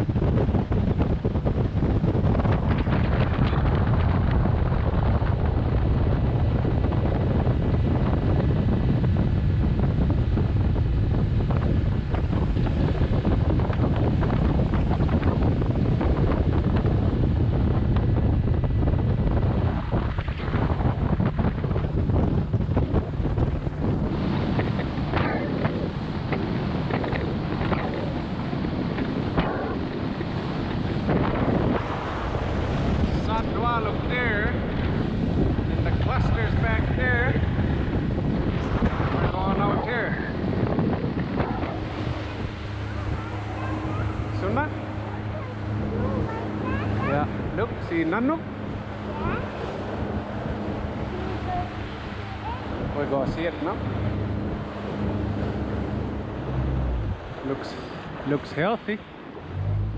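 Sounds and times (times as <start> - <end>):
outboard motor running: 0.0 - 59.9
water rushing from hull: 0.0 - 59.9
wind buffeting microphone: 0.0 - 59.9.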